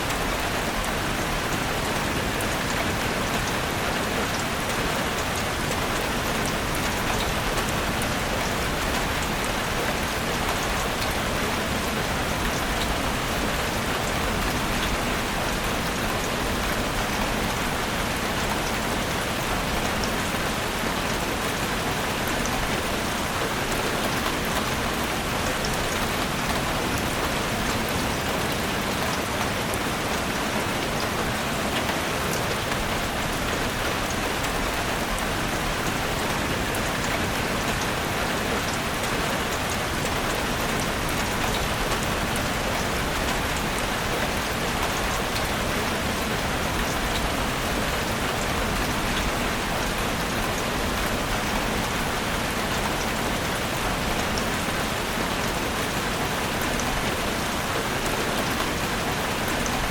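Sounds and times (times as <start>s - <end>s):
rain falling in a forest: 0.0s - 59.9s.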